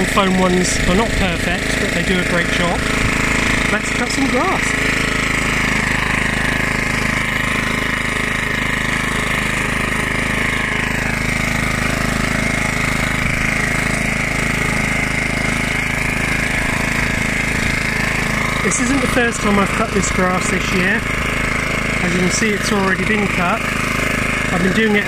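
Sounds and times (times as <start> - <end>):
lawnmower engine running: 0.0 - 25.0
mower cutting grass: 0.0 - 25.0.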